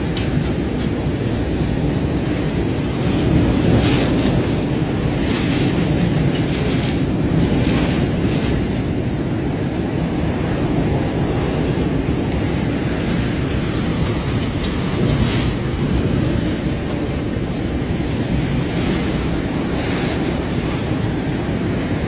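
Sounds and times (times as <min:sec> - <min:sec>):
driving rain: 0:00.0 - 0:22.0
strong wind buffeting microphone: 0:00.0 - 0:22.0.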